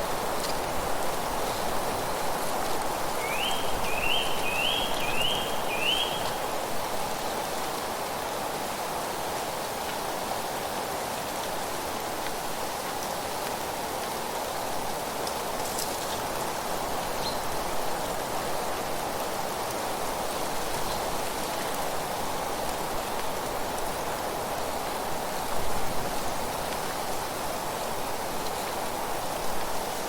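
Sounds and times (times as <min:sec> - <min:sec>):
wind rustling leaves: 0:00.0 - 0:30.0.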